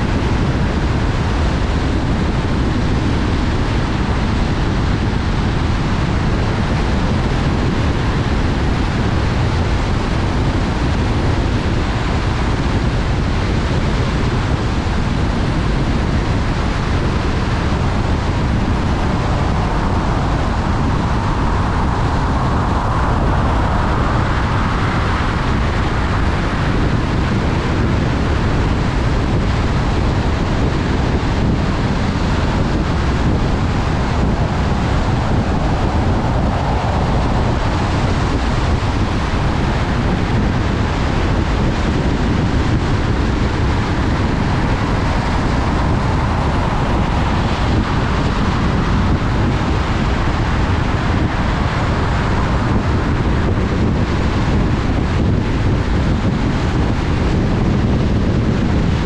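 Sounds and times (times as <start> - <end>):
tyre and road noise: 0.0 - 58.0
wind noise: 0.0 - 59.0.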